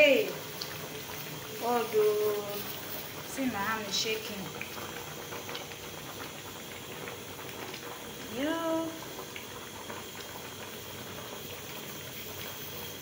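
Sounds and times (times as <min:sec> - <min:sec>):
soup boiling: 0:00.0 - 0:13.0.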